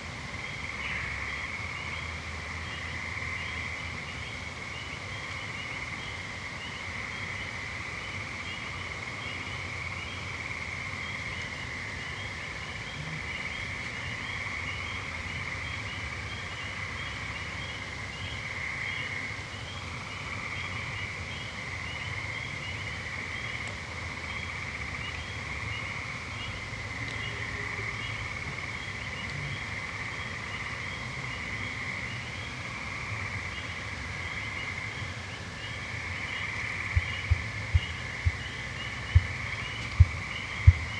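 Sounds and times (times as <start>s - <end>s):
frogs and insects calling: 0.4s - 40.9s.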